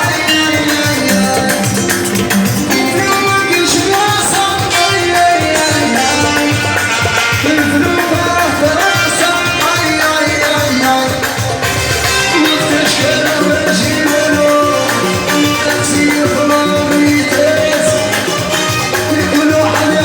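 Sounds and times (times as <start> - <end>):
live music with percussion: 0.0 - 20.0.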